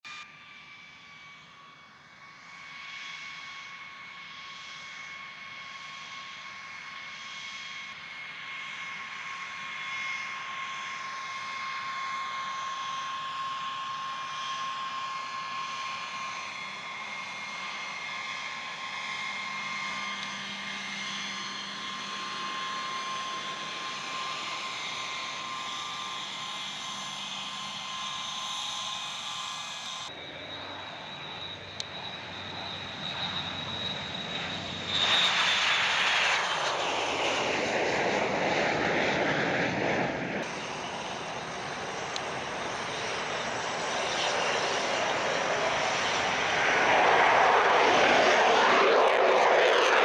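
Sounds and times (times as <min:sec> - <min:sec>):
jet engine whine and rush: 0:00.0 - 0:50.0.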